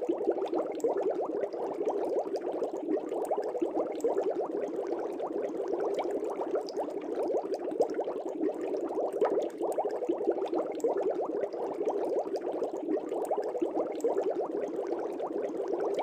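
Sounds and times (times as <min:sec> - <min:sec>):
water bubbling in fish tank: 0:00.0 - 0:16.0.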